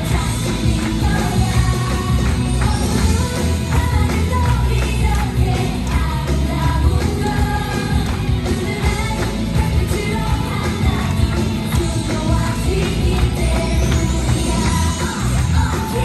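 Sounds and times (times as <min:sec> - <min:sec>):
pop song with singing over a beat: 0:00.0 - 0:16.0.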